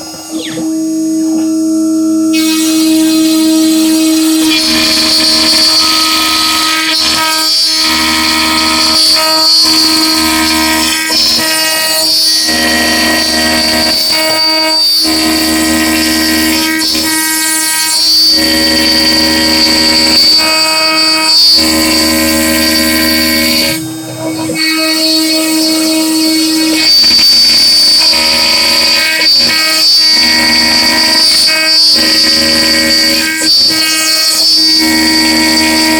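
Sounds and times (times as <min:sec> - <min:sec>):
router spindle whine: 0:00.0 - 0:35.9
stepper motors singing: 0:00.0 - 0:35.9.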